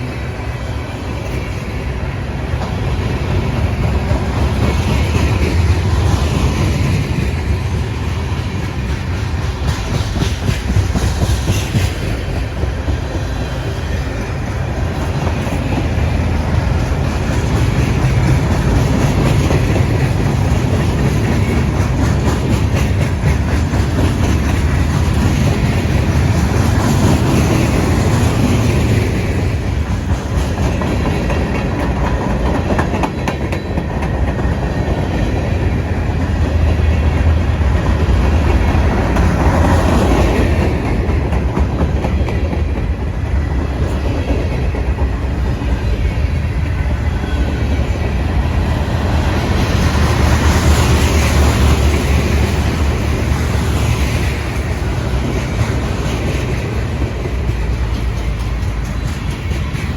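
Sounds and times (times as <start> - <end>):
freight train cars rolling past: 0.0 - 59.9
wheels clacking over rail joints: 0.0 - 59.9.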